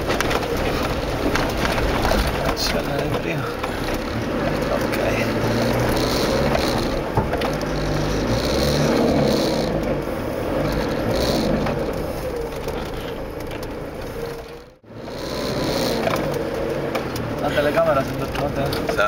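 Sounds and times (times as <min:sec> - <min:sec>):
car engine running under load: 0:00.0 - 0:19.0.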